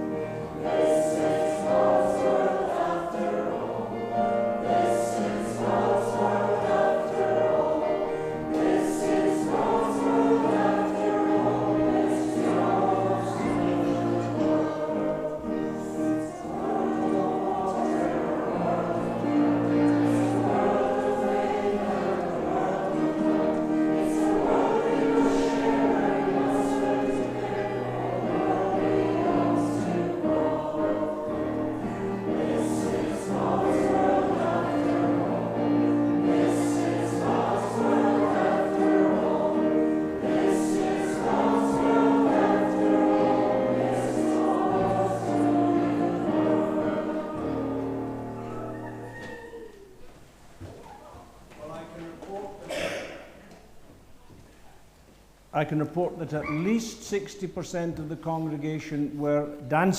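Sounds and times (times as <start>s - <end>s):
congregation singing a hymn: 0.0s - 50.1s, 51.6s - 53.8s
piano accompaniment: 0.0s - 50.1s.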